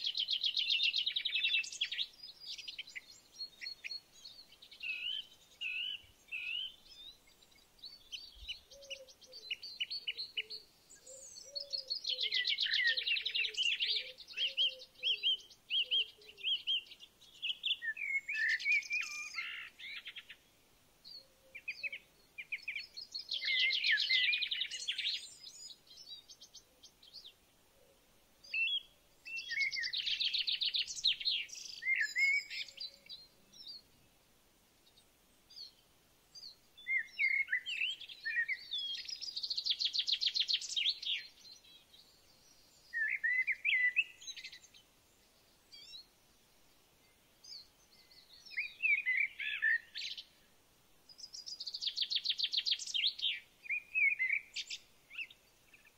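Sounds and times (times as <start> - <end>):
bird chirps: 0.0 - 20.4, 21.0 - 34.0, 34.8 - 46.1, 47.0 - 50.5, 51.1 - 55.9.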